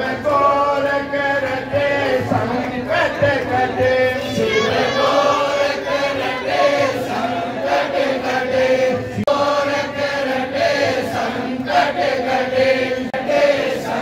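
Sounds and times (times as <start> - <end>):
group chanting in unison: 0.0 - 14.0.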